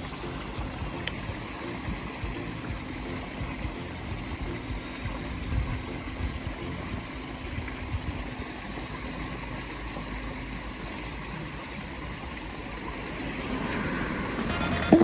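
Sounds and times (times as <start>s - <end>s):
low water rumble: 0.0s - 15.0s
water rushing over weir: 0.0s - 15.0s.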